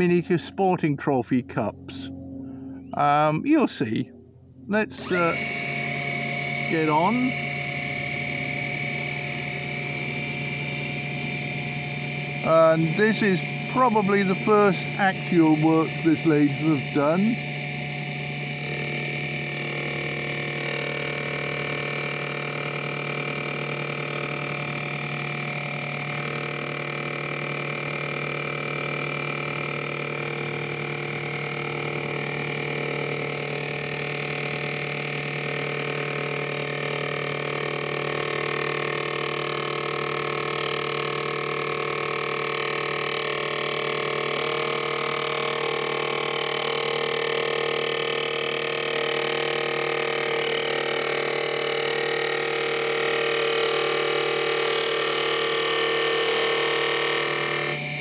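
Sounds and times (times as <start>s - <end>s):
lathe motor whine: 0.0s - 4.0s, 4.6s - 58.0s.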